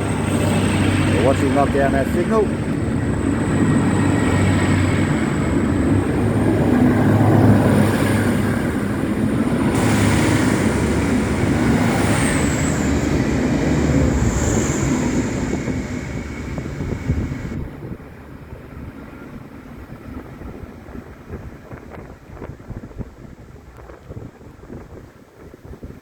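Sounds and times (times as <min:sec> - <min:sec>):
train engine and wheel rumble: 0:00.0 - 0:26.0.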